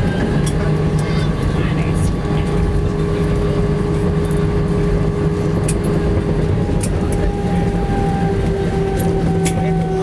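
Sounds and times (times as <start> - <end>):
airplane cabin rumble and hum: 0.0 - 10.0.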